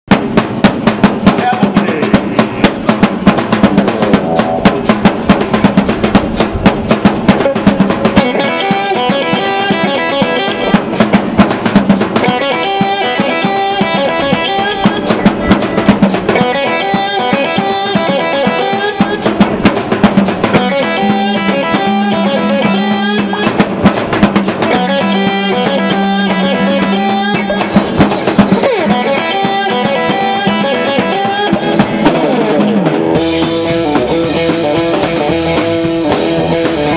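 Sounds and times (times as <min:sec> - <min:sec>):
rapid dense drumming: 0:00.1 - 0:36.9
live ensemble music: 0:00.2 - 0:36.9.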